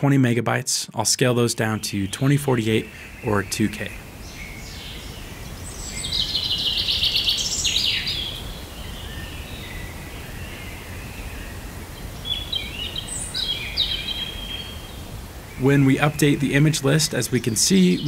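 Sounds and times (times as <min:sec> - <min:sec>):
birds chirping and trilling: 0:01.2 - 0:18.0.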